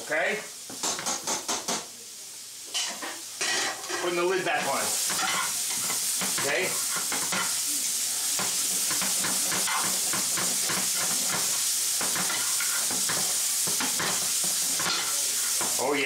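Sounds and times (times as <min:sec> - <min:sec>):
vegetables sizzling in a pan: 0:00.0 - 0:16.0
tongs scraping a pan: 0:02.7 - 0:16.0.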